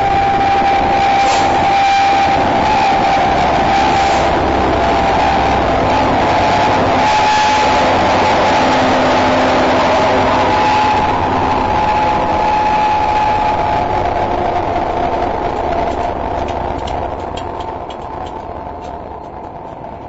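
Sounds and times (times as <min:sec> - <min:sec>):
diesel locomotive engines thrashing: 0:00.0 - 0:20.0.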